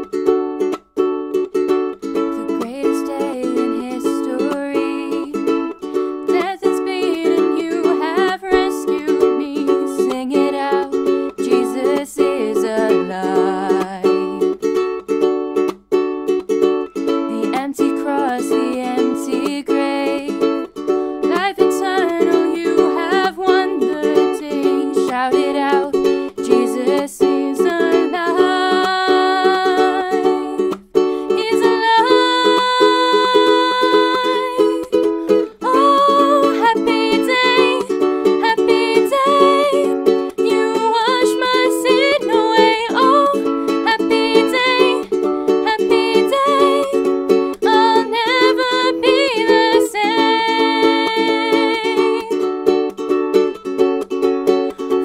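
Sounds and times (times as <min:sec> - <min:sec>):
strummed ukulele: 0:00.0 - 0:55.0
person singing: 0:02.2 - 0:14.8, 0:17.2 - 0:52.9.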